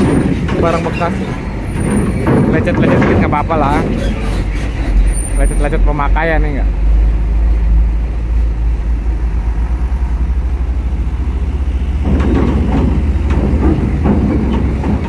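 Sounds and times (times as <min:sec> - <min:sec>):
vehicle engines humming: 0:00.0 - 0:15.0
wheels clanking on steel grating: 0:00.0 - 0:15.0.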